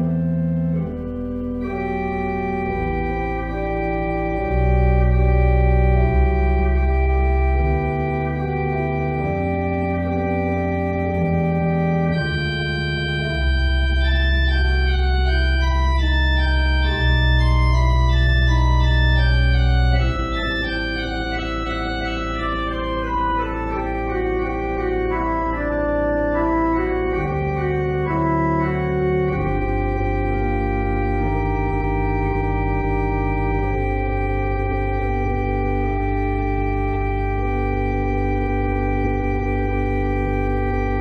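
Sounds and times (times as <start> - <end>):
church organ playing: 0.0 - 41.0.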